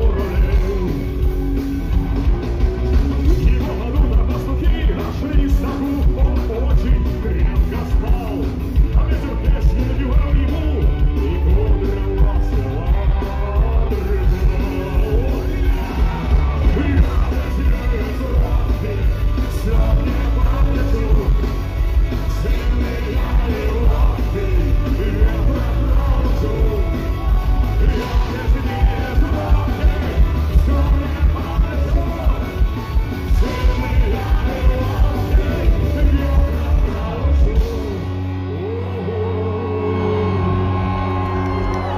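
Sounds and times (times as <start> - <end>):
punk rock band playing: 0.0 - 41.9
shouted wordless vocals: 0.0 - 41.9.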